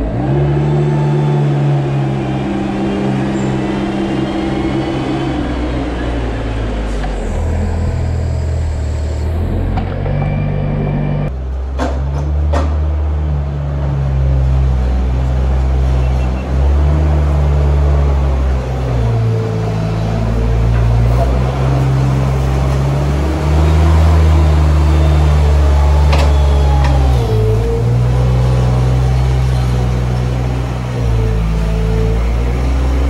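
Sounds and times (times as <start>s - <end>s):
loader engine running under load: 0.0s - 33.0s.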